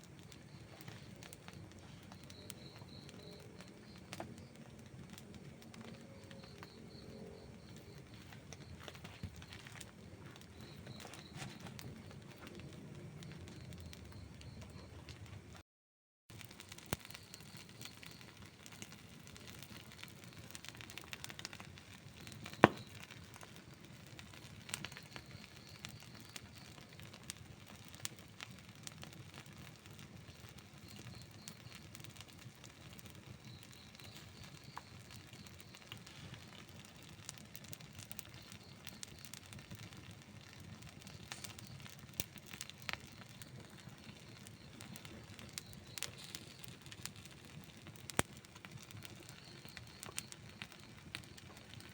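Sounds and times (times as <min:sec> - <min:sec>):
campfire crackling and popping: 0:00.0 - 0:15.6, 0:16.3 - 0:51.9
campfire hissing: 0:00.0 - 0:15.6, 0:16.3 - 0:51.9.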